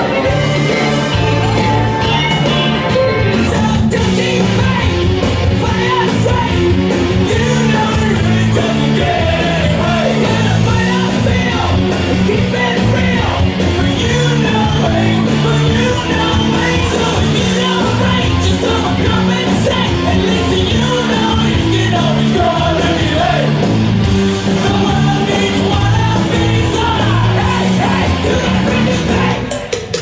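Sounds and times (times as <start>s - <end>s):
song with singing and beat: 0.0s - 30.0s.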